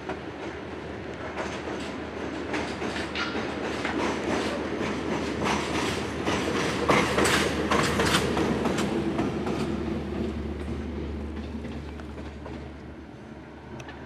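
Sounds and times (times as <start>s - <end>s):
train wheels clattering: 0.0s - 12.9s.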